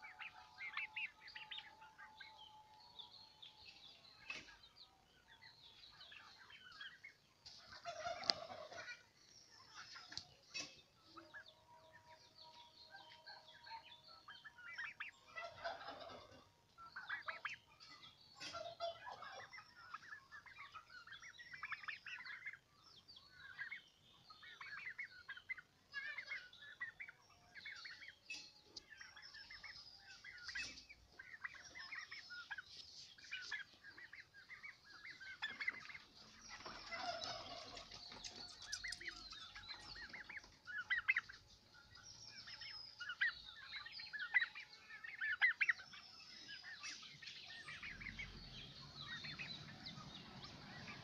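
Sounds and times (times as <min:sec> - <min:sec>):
turkeys calling: 0:00.0 - 0:51.0.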